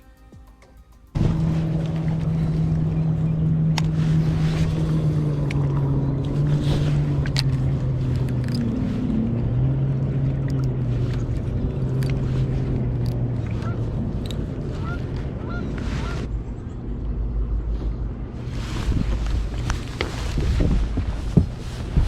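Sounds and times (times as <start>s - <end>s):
outboard motor running: 1.1s - 22.0s
wind and water noise: 1.2s - 22.0s.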